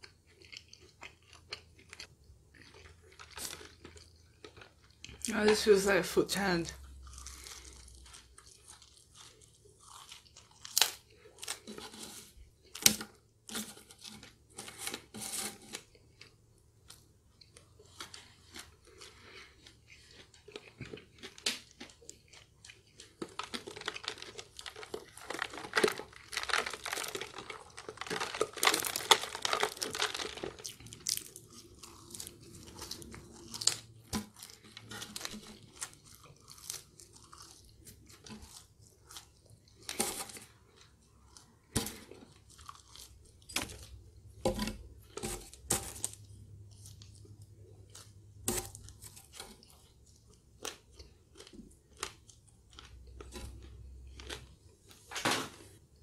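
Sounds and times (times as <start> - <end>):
person chewing crunchy fries: 0.0 - 5.6, 6.8 - 56.0.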